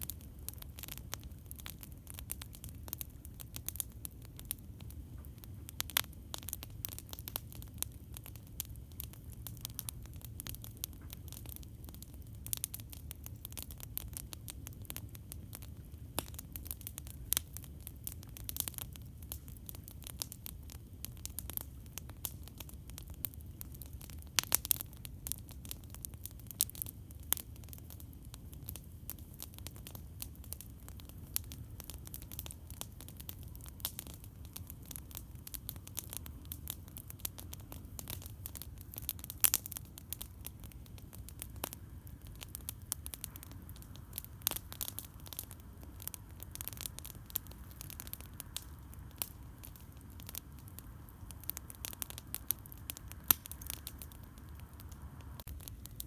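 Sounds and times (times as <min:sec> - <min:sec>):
sharp pops of fire: 0:00.0 - 0:56.0
wood campfire crackling: 0:00.0 - 0:56.0.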